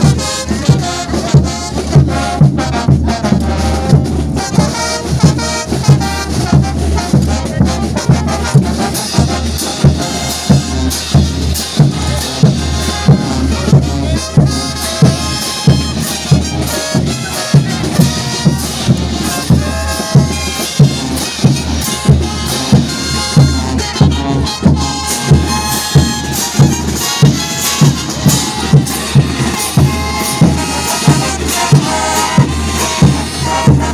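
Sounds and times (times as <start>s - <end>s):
bass drum beat: 0.0s - 33.9s
brass band playing: 0.0s - 33.9s.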